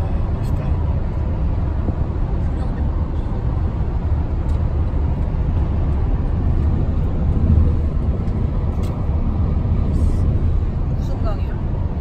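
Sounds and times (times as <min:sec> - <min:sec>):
road and engine noise in car: 0:00.0 - 0:12.0.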